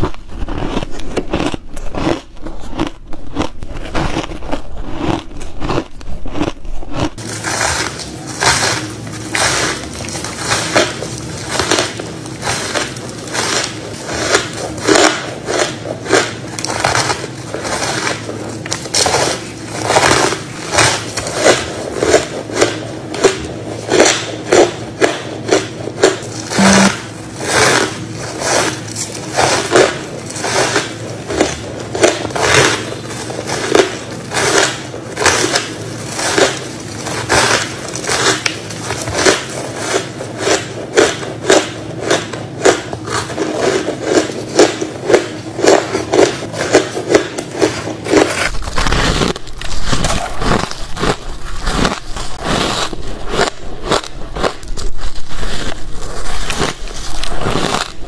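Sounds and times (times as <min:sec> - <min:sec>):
chewing ice crunches: 0:00.0 - 0:58.0.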